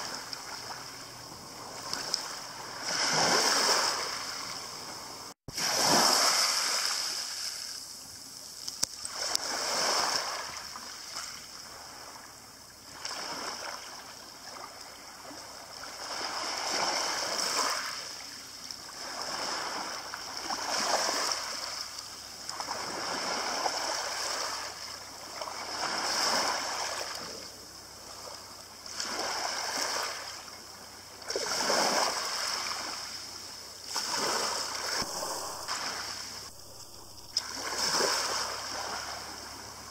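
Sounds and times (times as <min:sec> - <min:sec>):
waves washing over pebbles: 0:00.0 - 0:12.2, 0:12.8 - 0:39.9.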